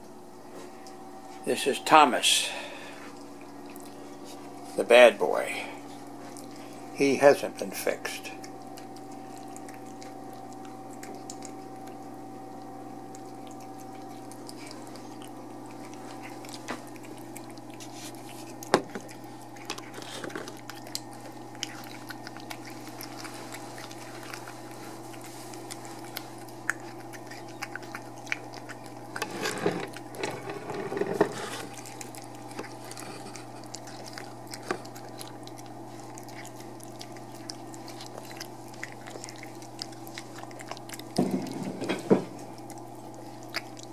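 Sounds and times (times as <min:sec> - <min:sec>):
cat chewing wet food: 0:02.5 - 0:04.8, 0:05.4 - 0:43.9.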